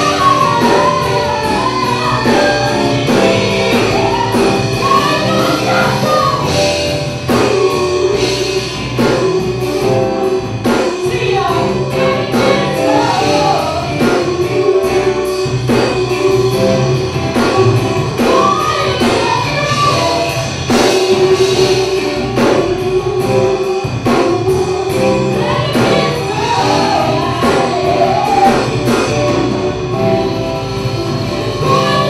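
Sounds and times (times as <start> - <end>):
women's backing vocals: 0.0 - 6.6, 10.3 - 29.1, 31.0 - 32.0
drum kit: 0.0 - 32.0
electric guitar: 0.0 - 32.0
keyboards: 0.0 - 32.0
woman singing lead: 0.0 - 32.0.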